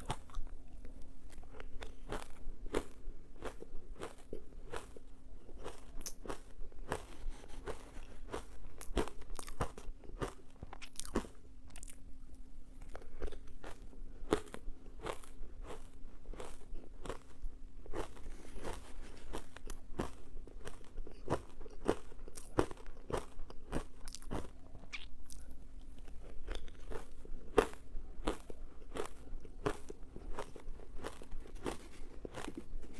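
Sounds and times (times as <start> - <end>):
ice being chewed: 0.0 - 12.0, 12.8 - 32.9.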